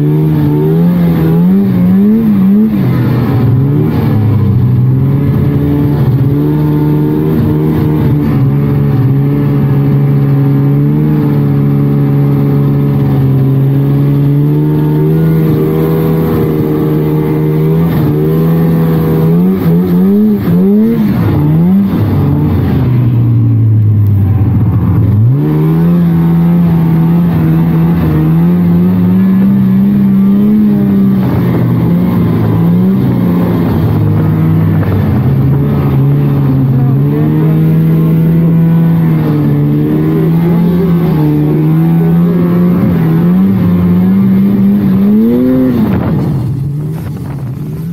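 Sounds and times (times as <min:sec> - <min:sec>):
snowmobile engine running: 0:00.0 - 0:47.9.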